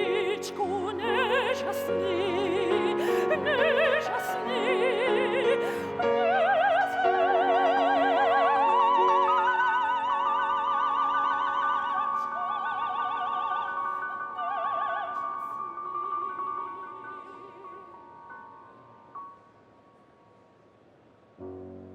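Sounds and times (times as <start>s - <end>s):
operatic singing: 0.0s - 18.6s.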